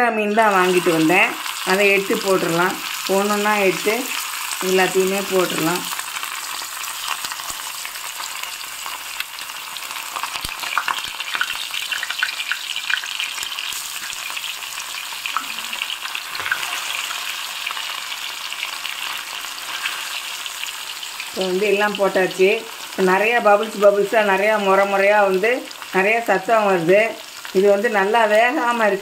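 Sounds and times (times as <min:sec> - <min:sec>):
fish frying in oil sizzling: 0:00.2 - 0:29.0.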